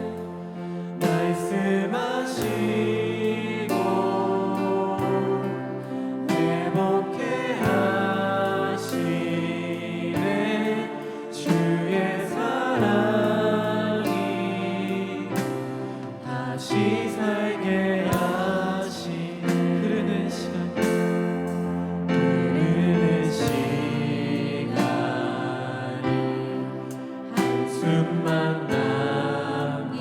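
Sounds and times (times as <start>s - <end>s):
instrumental accompaniment: 0.0s - 30.0s
voices singing worship song: 0.0s - 30.0s.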